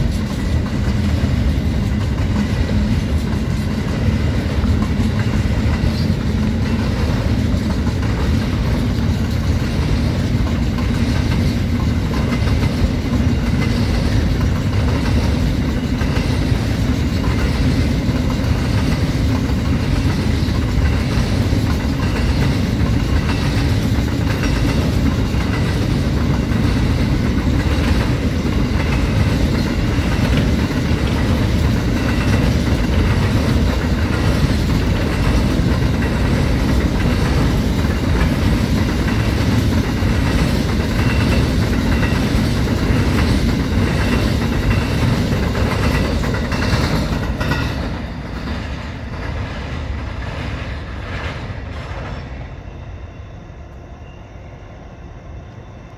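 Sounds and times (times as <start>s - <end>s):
wheels clicking on rails: 0.0s - 52.4s
freight train wheels rumbling: 0.0s - 55.9s.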